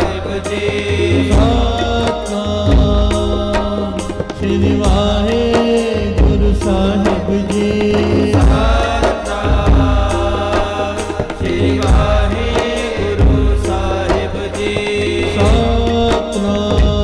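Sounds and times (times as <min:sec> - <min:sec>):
chanted melodic vocals: 0:00.0 - 0:17.0
sharp percussion strikes: 0:00.0 - 0:17.0
steady drum beat: 0:00.0 - 0:17.0.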